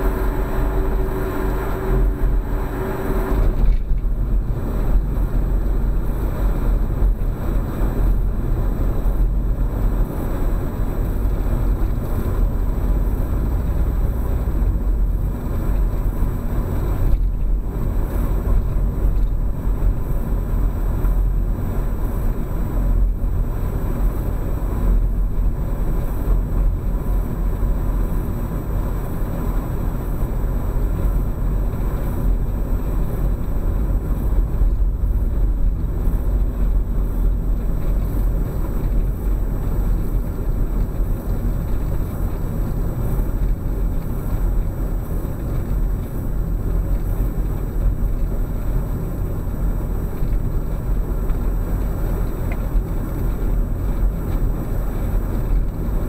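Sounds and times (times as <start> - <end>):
car tyre and engine rumble: 0.0 - 56.0
steady hum: 0.0 - 56.0.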